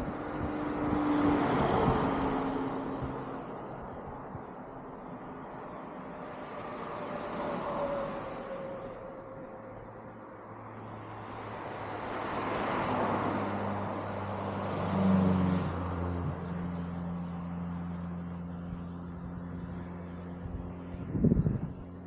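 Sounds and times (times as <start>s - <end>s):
low engine hum: 0.0s - 22.0s
vehicle passing: 0.0s - 22.0s.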